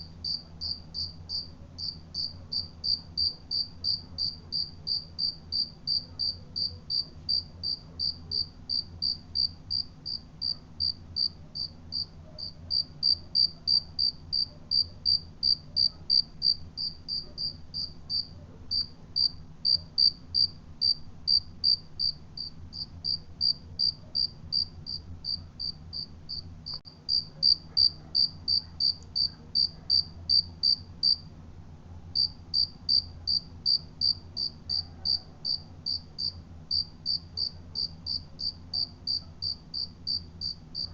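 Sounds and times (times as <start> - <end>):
cricket chirping: 0.2 - 31.2, 32.2 - 40.9.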